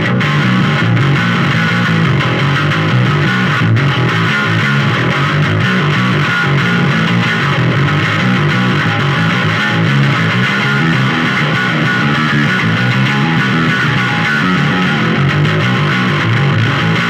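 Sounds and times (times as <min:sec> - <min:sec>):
distorted electric bass riff: 0:00.0 - 0:17.0.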